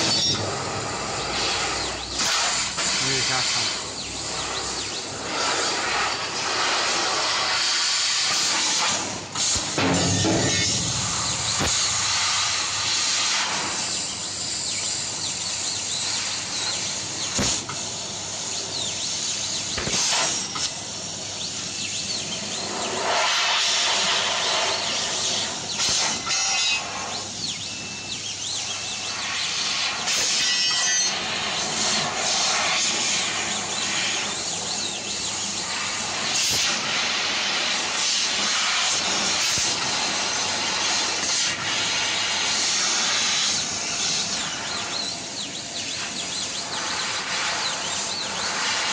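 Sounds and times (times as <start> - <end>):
laser cutter gas hiss: 0.0 - 48.9.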